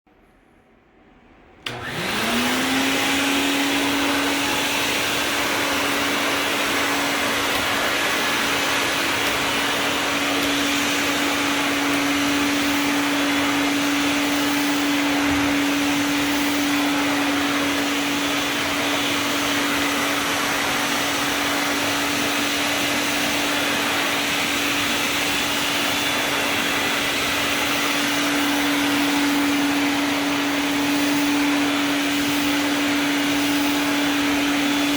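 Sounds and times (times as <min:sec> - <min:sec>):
vacuum cleaner running: 0:01.5 - 0:34.9.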